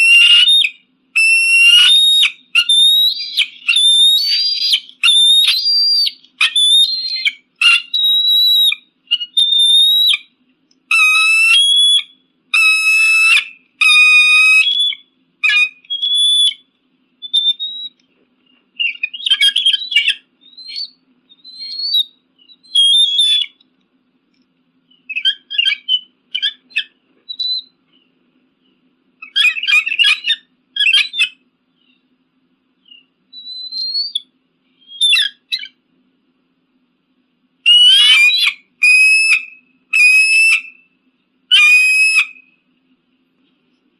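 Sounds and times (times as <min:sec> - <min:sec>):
eagle whistled cries: 0:00.0 - 0:23.6, 0:24.9 - 0:32.1, 0:32.8 - 0:35.8, 0:37.6 - 0:42.6.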